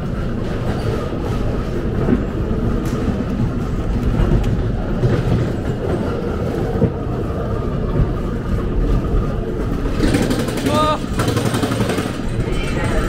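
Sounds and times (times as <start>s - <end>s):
ride car rumbling on track: 0.0s - 13.0s
wheels rattling and clicking: 0.0s - 13.0s.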